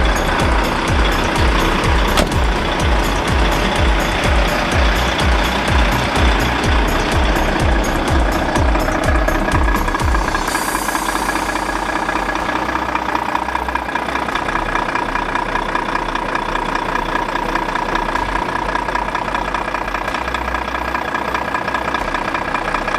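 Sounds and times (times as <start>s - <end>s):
truck diesel engine idling: 0.0s - 22.9s.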